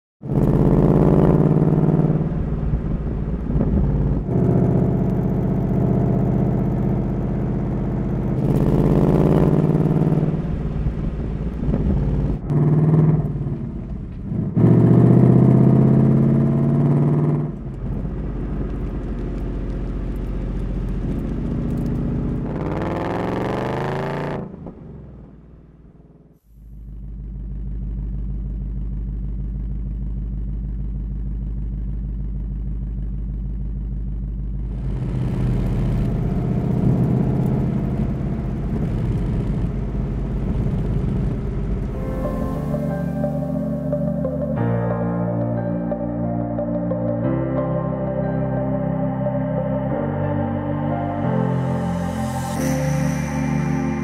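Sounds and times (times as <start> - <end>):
car engine revving and accelerating: 0.2 - 26.2, 34.6 - 54.0
car engine idling: 0.2 - 47.0.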